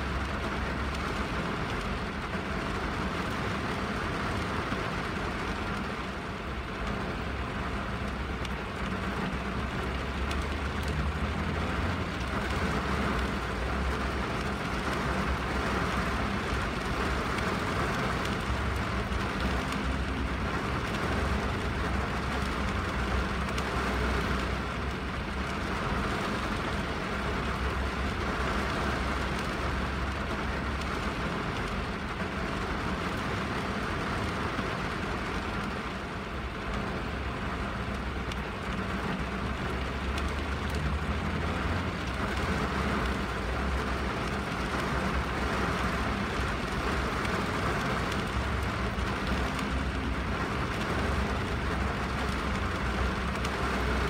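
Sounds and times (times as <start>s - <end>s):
rain on a window and roof: 0.0s - 54.0s.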